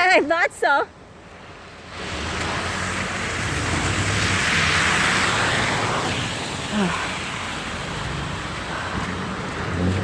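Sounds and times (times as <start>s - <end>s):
tyres hissing through slush: 2.0s - 10.0s.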